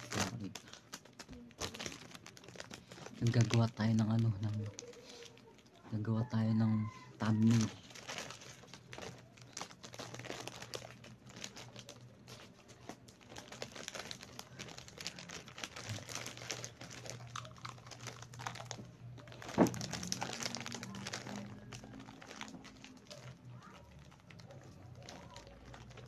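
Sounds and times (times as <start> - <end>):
plastic wrappers crinkling: 0.0 - 26.0.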